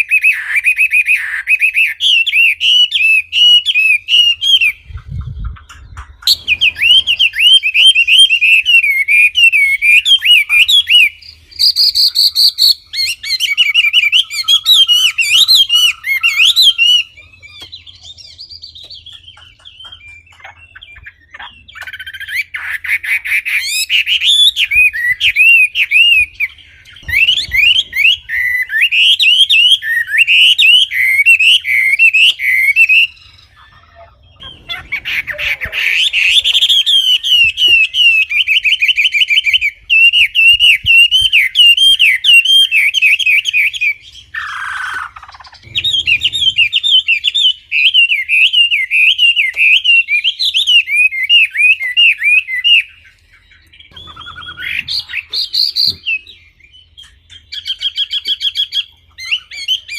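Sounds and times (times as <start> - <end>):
songbird chirping and trilling: 0.0 - 59.9.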